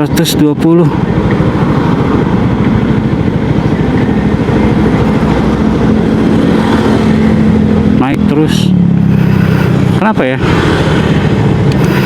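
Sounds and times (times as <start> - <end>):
scooter engine rumbling: 0.0 - 12.0
steady hum: 1.0 - 12.0.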